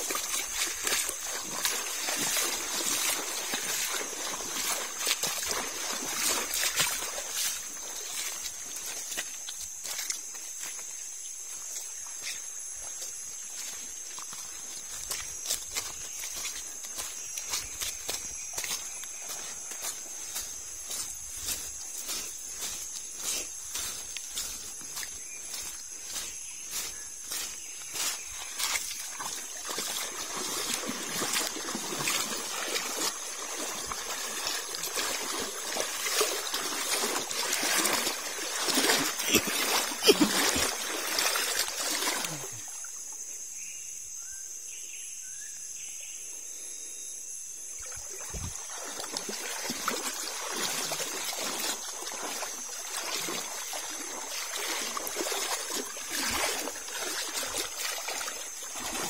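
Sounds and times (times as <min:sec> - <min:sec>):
small splashes: 0:00.0 - 0:43.0, 0:47.8 - 0:59.0
stream trickling over stones: 0:00.0 - 0:43.1, 0:47.8 - 0:59.0.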